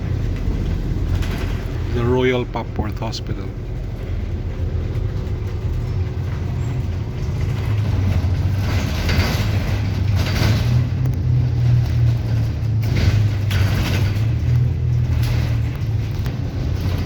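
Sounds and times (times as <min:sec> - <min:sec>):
bus engine running: 0:00.0 - 0:17.0
road noise: 0:00.0 - 0:17.0.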